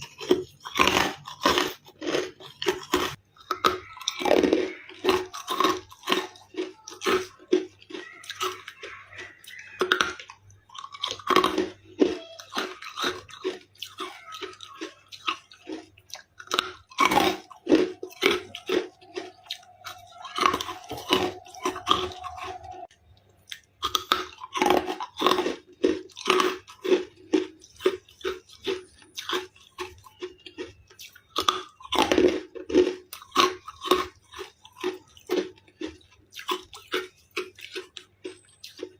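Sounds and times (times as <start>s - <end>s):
chewing and crunching ice: 0.0s - 38.9s.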